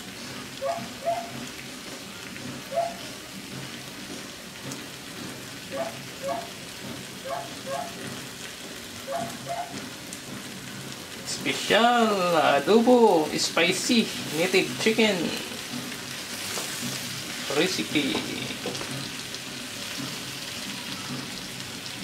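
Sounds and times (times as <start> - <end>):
food sizzling in a wok: 0.0 - 22.0.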